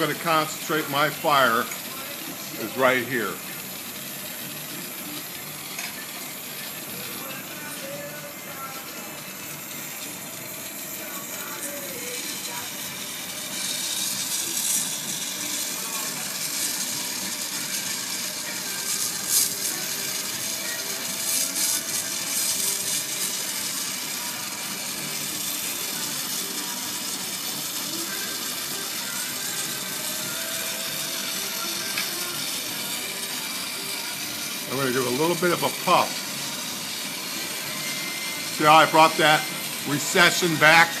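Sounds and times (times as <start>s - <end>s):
torch flame hissing: 0.0s - 41.0s.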